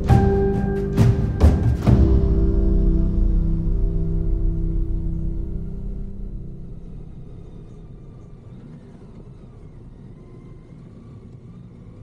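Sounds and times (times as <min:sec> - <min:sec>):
motorcycle engine rumble: 0:00.0 - 0:11.5
road noise: 0:00.0 - 0:12.0.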